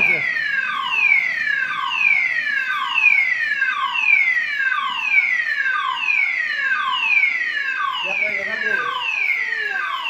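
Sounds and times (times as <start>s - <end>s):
fire alarm sweeping tone: 0.0s - 10.0s.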